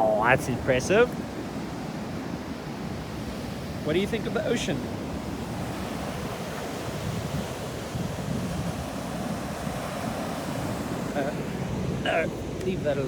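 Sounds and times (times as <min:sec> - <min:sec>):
ocean surf washing onto beach: 0:00.0 - 0:13.0
wind on microphone: 0:00.0 - 0:13.0.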